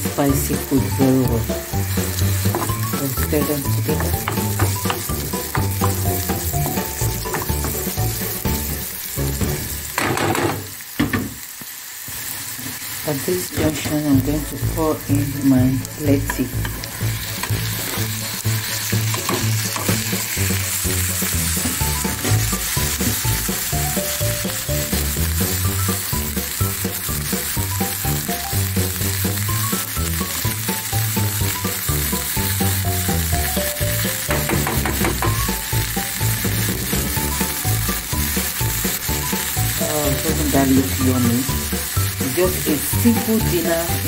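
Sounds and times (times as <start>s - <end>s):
background music with bass: 0.0s - 10.0s, 14.0s - 44.0s
food sizzling in oil: 0.0s - 44.0s.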